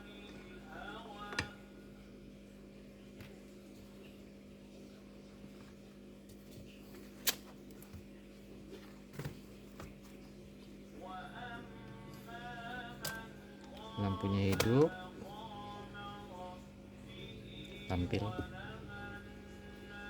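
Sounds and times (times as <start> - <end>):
faint music: 0.0 - 20.0
steady low hum: 0.0 - 20.0.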